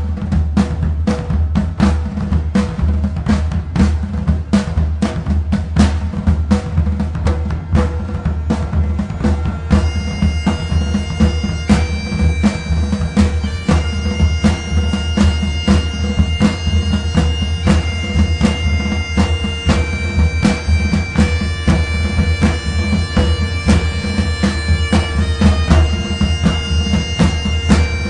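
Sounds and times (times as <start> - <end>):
drum beat: 0.0 - 28.0.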